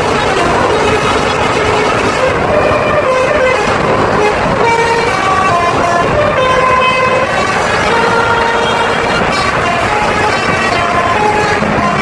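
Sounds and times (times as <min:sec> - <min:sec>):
bus engine rumble: 0:00.0 - 0:12.0
multi-tone air horn melody: 0:00.0 - 0:12.0.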